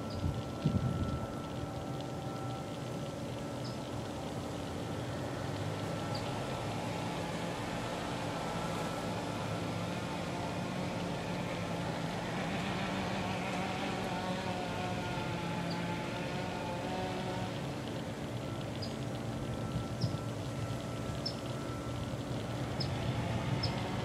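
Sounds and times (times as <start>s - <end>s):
motor drone: 0.0s - 24.0s.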